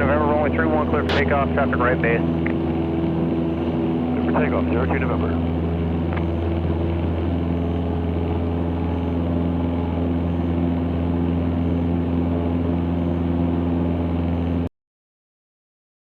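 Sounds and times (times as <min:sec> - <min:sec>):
aircraft engine droning in cockpit: 0:00.0 - 0:14.7.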